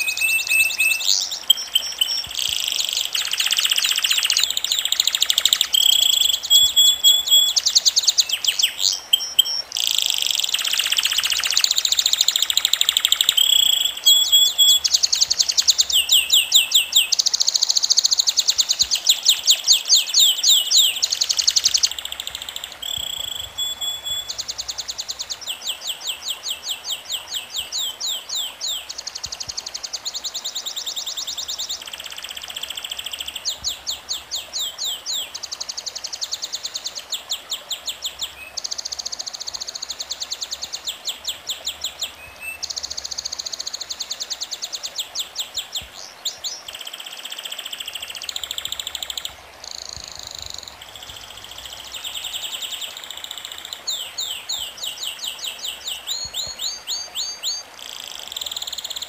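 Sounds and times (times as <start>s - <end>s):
birds singing trills: 0.0s - 59.0s.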